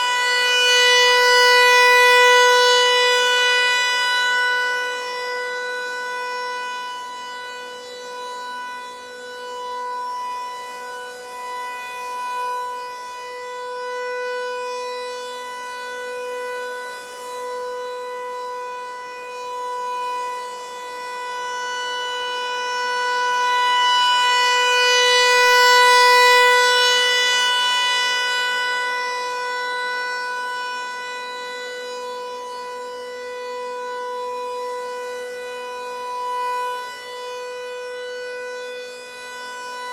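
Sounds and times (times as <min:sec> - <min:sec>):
rotating siren steady tone: 0:00.0 - 0:39.9.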